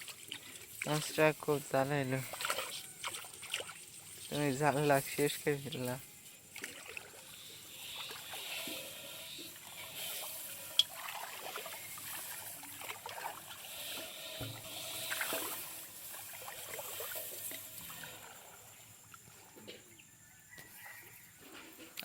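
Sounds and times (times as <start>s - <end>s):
wet fishing net rustling: 0.0s - 19.1s
water trickling and splashing: 0.0s - 22.0s.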